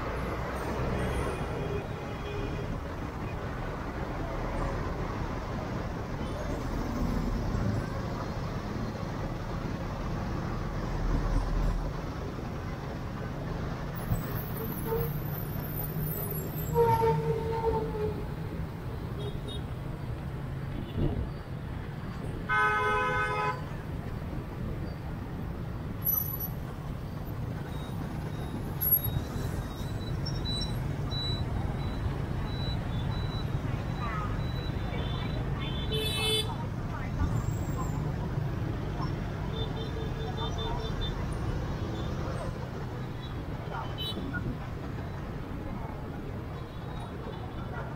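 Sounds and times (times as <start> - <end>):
motorbike and street traffic: 0.0 - 47.9.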